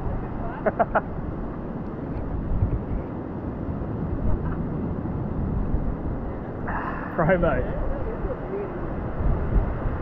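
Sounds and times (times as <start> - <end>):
surf washing: 0.0 - 10.0
wind buffeting microphone: 0.0 - 10.0.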